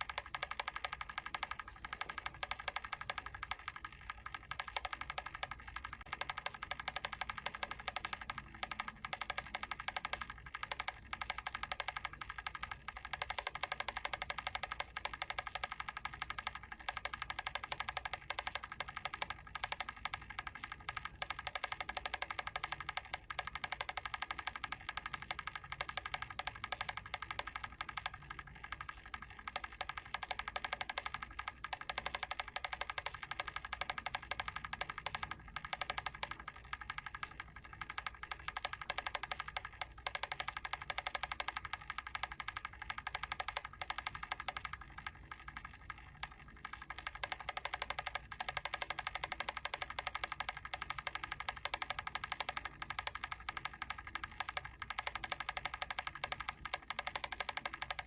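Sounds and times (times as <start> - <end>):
mechanical timer ticking: 0.0 - 58.0.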